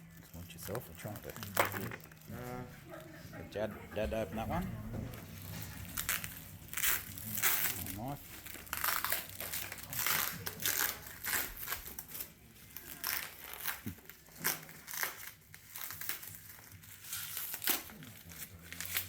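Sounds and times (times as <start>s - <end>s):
packaging rustling and crinkling: 0.0s - 2.4s, 5.1s - 19.0s.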